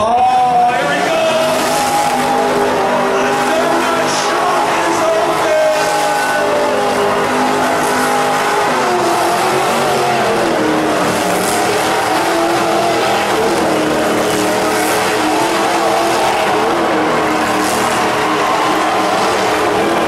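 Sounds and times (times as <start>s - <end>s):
off-road engine revving hard: 0.0s - 20.0s.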